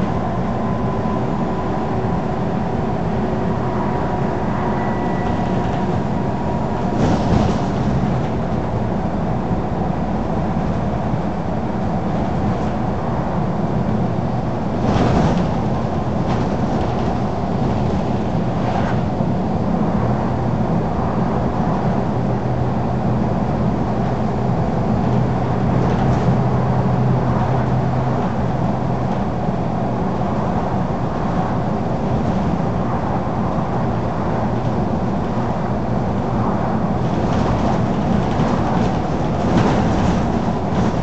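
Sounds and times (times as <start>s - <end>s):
bus diesel engine drone: 0.0s - 41.0s
road noise: 0.0s - 41.0s.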